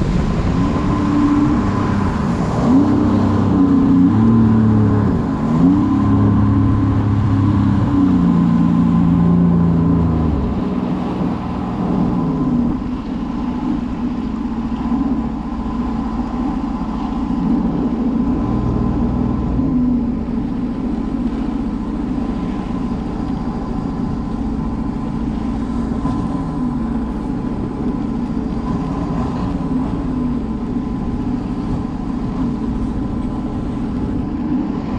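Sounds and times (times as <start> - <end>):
water rushing past: 0.0 - 34.9
watercraft engine running: 0.0 - 34.9.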